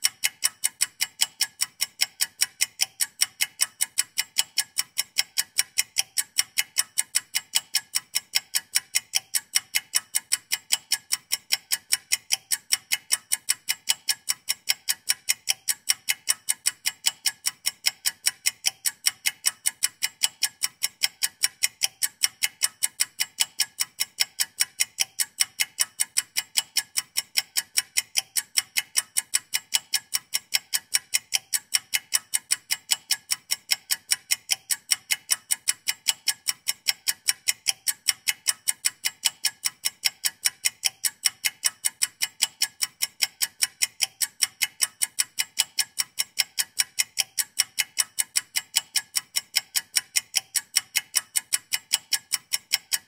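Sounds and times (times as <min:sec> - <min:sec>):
clock ticking: 0:00.0 - 0:53.0.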